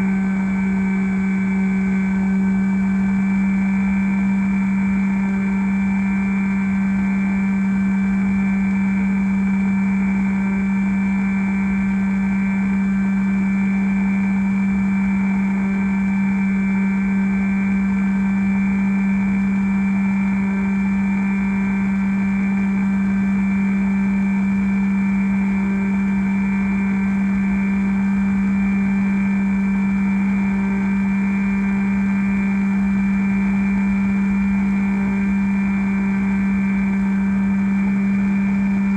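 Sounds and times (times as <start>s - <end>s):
model plane electric motor humming: 0.0s - 38.9s.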